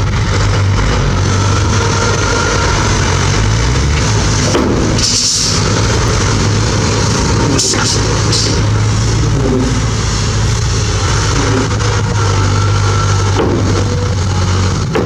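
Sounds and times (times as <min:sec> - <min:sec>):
bulldozer diesel engine running: 0:00.0 - 0:15.0
high-pitched hissing or squealing: 0:01.2 - 0:15.0.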